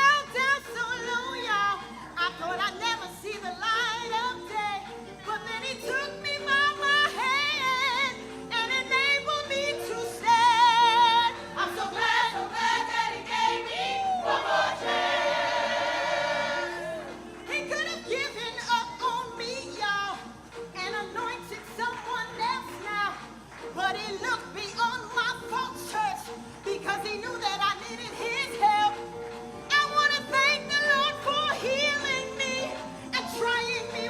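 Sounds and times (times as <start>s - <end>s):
gospel singing with vibrato: 0.0s - 34.0s.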